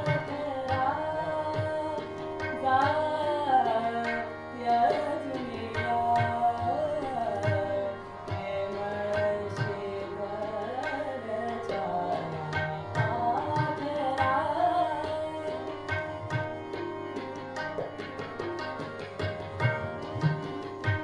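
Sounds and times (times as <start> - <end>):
harmonium chords: 0.0 - 21.0
tabla strokes: 0.0 - 21.0.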